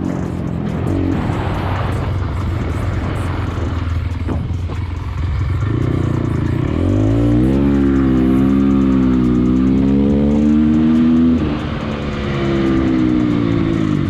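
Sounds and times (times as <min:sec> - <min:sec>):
steady rushing noise: 0:00.0 - 0:14.0
vehicle engine revving: 0:00.0 - 0:14.0.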